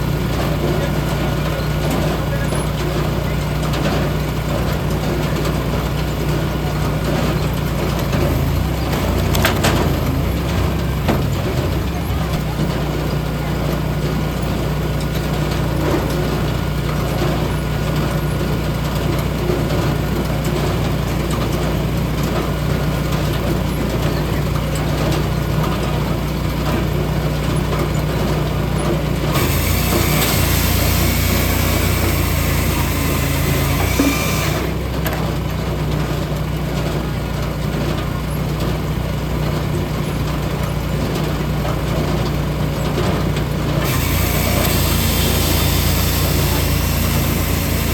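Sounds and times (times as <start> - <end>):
log splitter engine running: 0.0 - 47.9.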